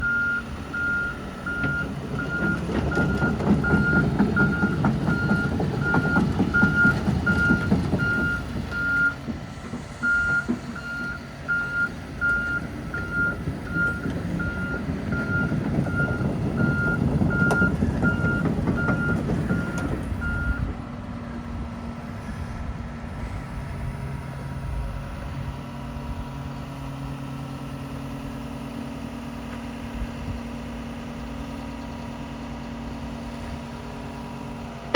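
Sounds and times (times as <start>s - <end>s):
excavator diesel engine: 0.0s - 34.9s.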